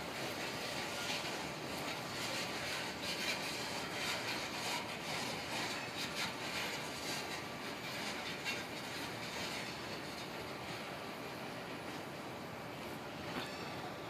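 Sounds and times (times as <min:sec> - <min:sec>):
steel wheels on rails: 0:00.0 - 0:14.0.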